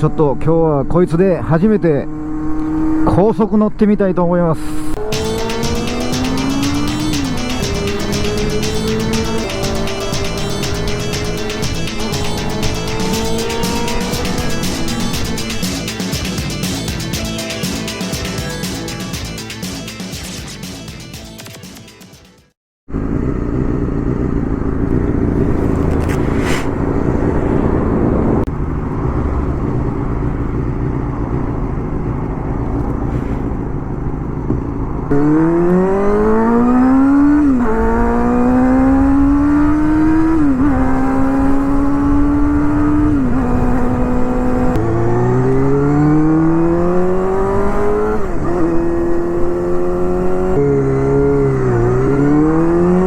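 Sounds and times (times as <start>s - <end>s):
motorcycle engine accelerating through gears: 1.8s - 3.2s, 4.6s - 17.0s, 22.9s - 53.0s.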